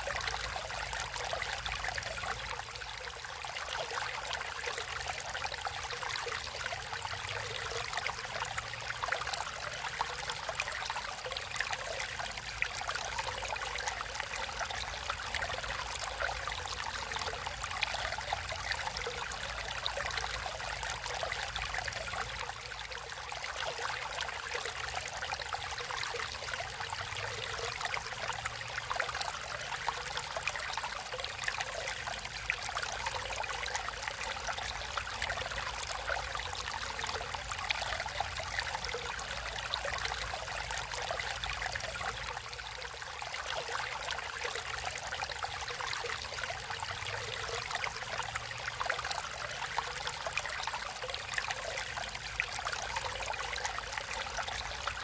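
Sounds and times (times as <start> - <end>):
stream flowing with splashes: 0.0 - 55.0.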